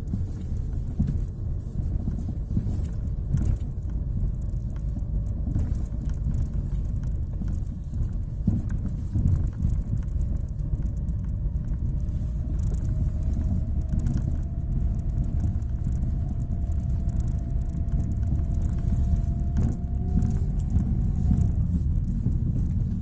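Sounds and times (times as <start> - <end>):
faint whine: 0.0 - 23.0
road and suspension rumble: 0.0 - 23.0.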